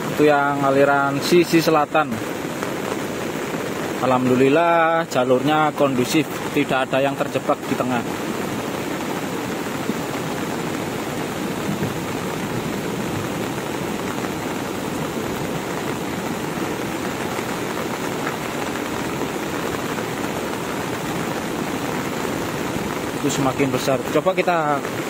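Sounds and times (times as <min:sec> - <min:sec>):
heavy rain: 0:00.0 - 0:25.0
mudflow rushing down channel: 0:00.0 - 0:25.0.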